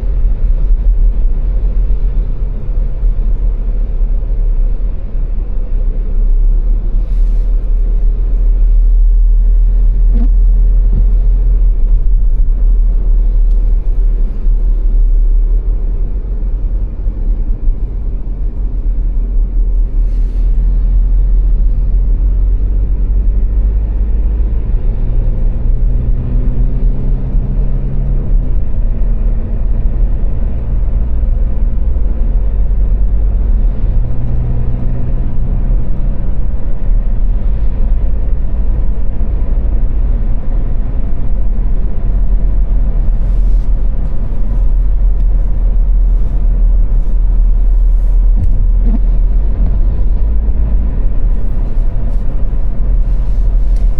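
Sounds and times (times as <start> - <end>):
car engine accelerating: 0.0 - 53.9
road rumble: 0.0 - 53.9.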